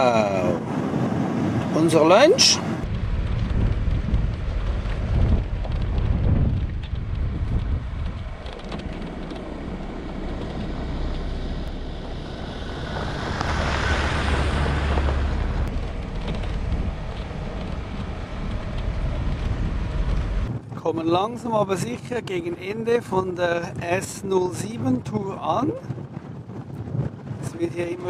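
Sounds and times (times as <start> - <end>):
off-road vehicle rumble: 0.0 - 28.0
wind buffeting microphone: 0.0 - 28.0.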